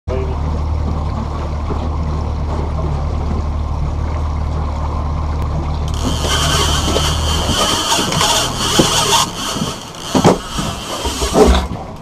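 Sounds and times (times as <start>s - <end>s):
outboard motor drone: 0.1s - 12.0s
water gurgling against hull: 0.1s - 12.0s.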